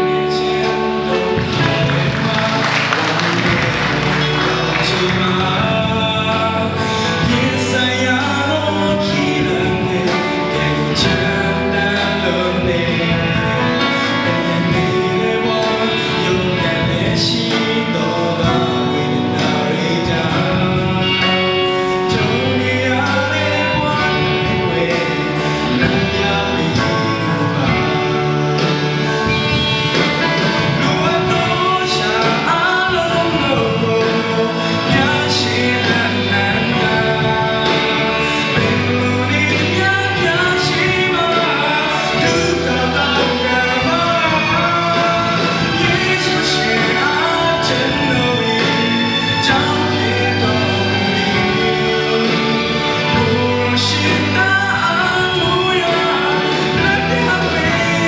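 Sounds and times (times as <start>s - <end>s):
instrumental accompaniment: 0.0s - 58.0s
man singing into microphone: 0.0s - 58.0s.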